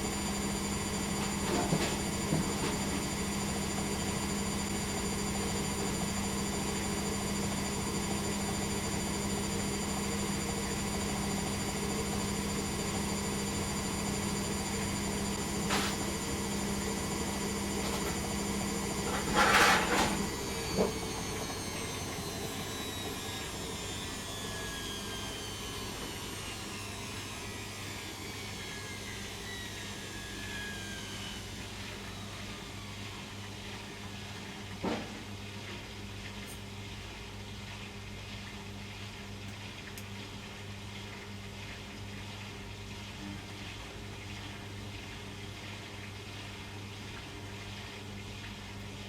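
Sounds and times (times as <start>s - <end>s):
washing machine spinning: 0.0s - 49.0s.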